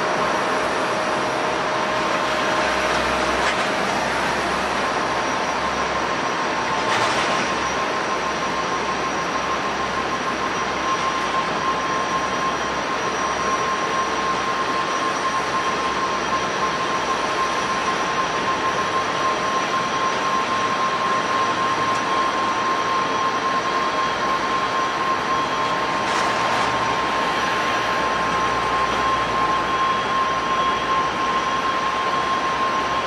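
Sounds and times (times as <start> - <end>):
jet engines roaring: 0.0 - 33.0
steady high tone: 0.0 - 33.0.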